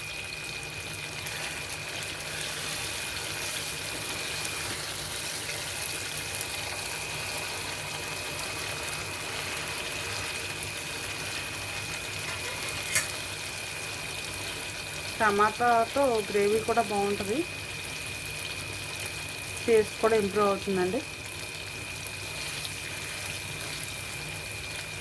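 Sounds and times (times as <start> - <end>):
food sizzling in oil in a pan: 0.0 - 25.0.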